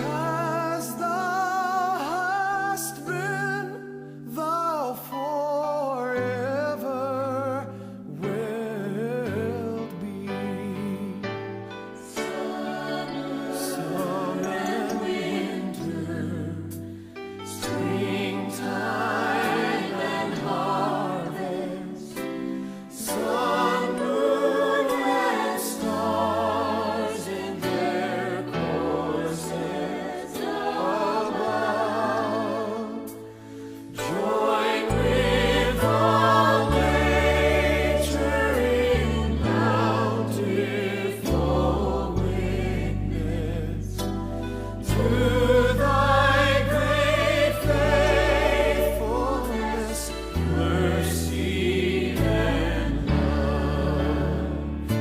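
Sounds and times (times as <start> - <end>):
voices singing gospel song: 0.0 - 55.0.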